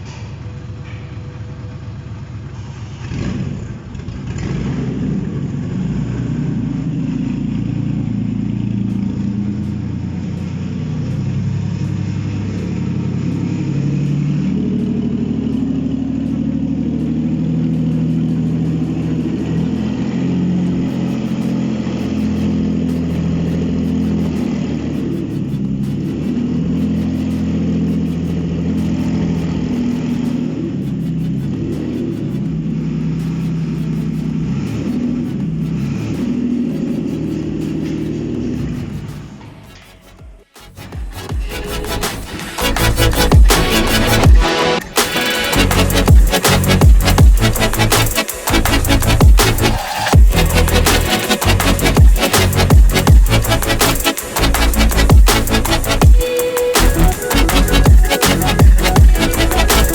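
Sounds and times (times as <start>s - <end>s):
engine starting and running: 0.0s - 59.9s.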